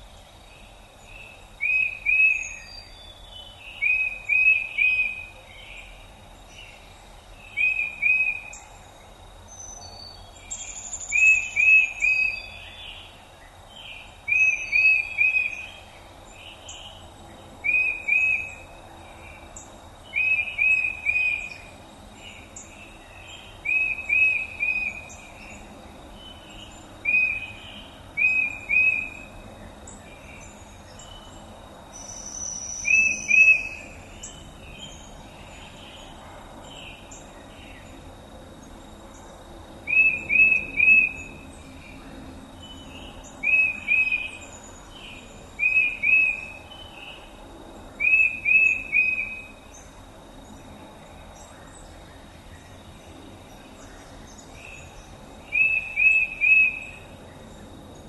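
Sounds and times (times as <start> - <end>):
faint birds chirping: 0.0 - 58.0
songbird singing: 0.0 - 58.0.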